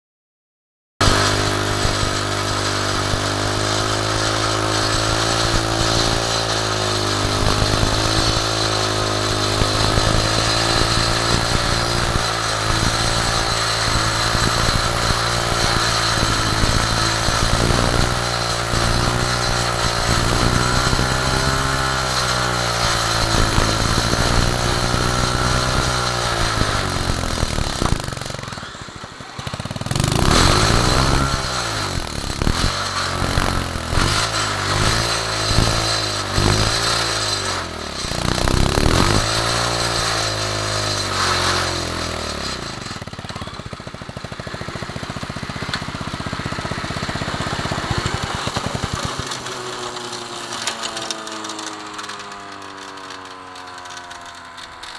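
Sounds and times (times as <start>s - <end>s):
engine running steadily: 1.0s - 54.9s.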